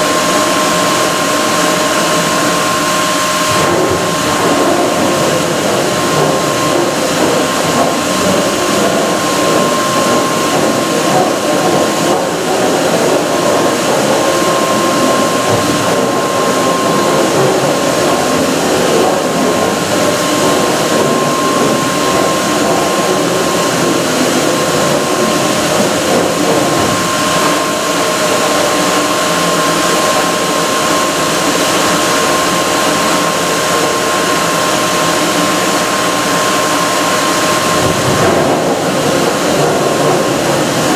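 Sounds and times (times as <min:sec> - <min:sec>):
constant high machine whine: 0:00.0 - 0:40.9
stone cutting machine running: 0:00.0 - 0:40.9.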